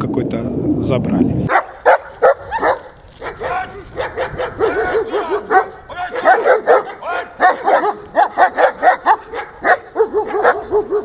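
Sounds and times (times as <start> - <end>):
dog barking: 1.5 - 11.0.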